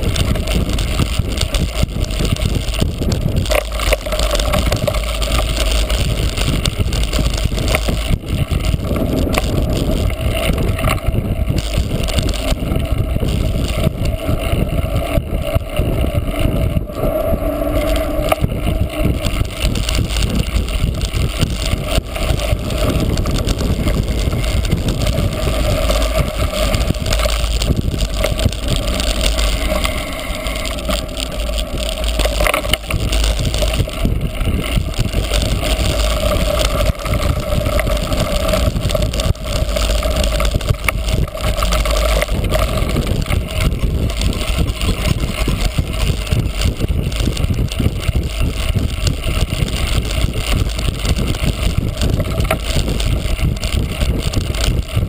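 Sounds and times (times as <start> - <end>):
bike knocks and rattles: 0.0 - 16.9, 17.6 - 55.0
wind rush and riding noise: 0.0 - 55.0.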